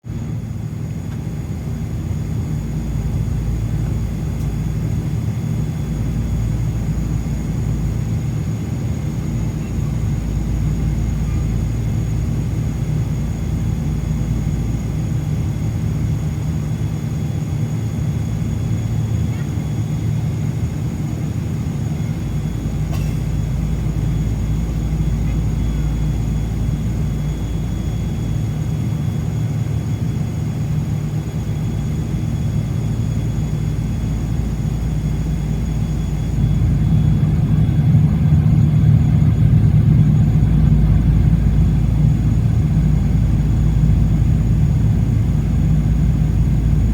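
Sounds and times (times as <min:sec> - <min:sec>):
jet engines low rumble: 0:00.0 - 0:46.9
jet engine high whine: 0:00.1 - 0:46.9.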